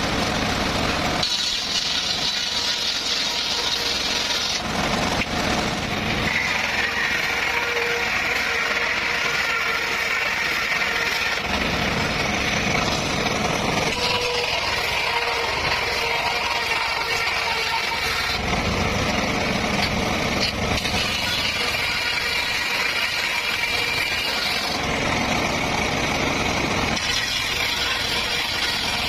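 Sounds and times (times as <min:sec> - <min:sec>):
circular saw cutting bamboo: 0:00.0 - 0:29.0.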